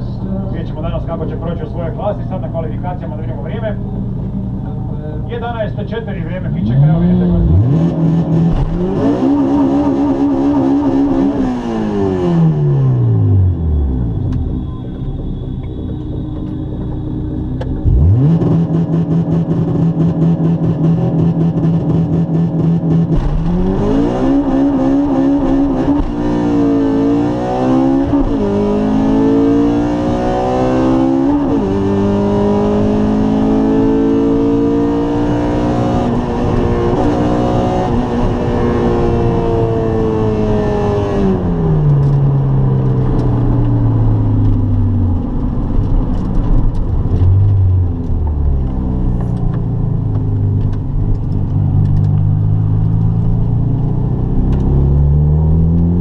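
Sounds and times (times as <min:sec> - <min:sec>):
car engine revving through gears: 0:06.3 - 0:14.6, 0:17.6 - 0:56.0.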